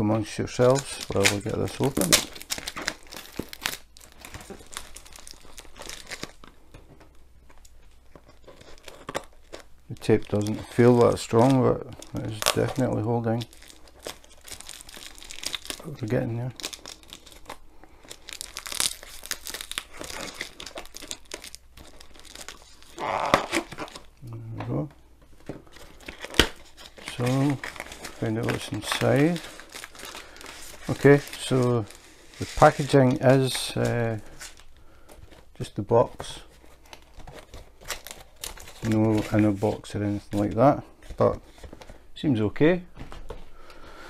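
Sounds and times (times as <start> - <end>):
packing tape crinkling and tearing: 0.4 - 24.8, 25.4 - 42.0.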